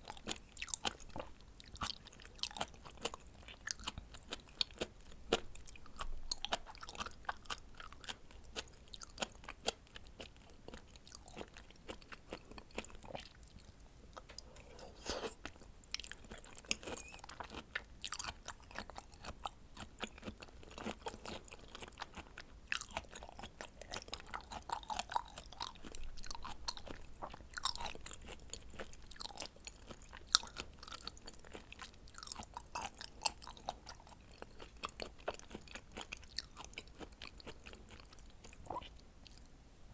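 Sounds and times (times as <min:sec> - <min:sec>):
wet chewing clicks and smacks: 0:00.0 - 0:14.4, 0:16.0 - 0:39.5.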